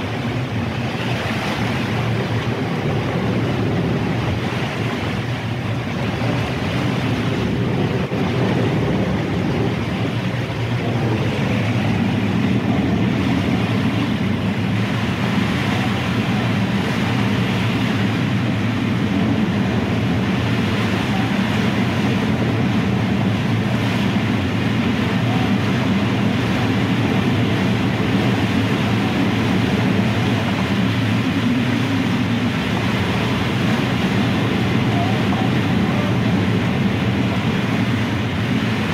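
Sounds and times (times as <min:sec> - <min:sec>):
rushing water: 0:00.0 - 0:38.9
wind: 0:00.0 - 0:38.9.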